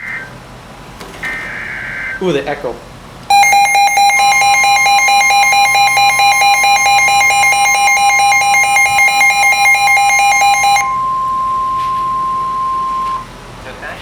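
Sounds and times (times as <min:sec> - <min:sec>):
shrill alarm beeping: 0:00.0 - 0:00.4, 0:01.0 - 0:02.4, 0:03.3 - 0:13.7
steady piercing alarm tone: 0:01.1 - 0:02.3, 0:03.3 - 0:13.6.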